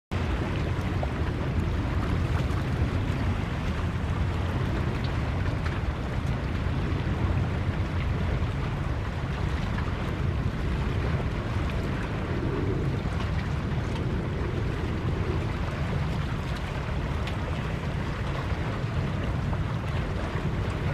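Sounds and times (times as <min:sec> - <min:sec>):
sea surf: 0:00.1 - 0:20.9
wind buffeting microphone: 0:00.1 - 0:20.9.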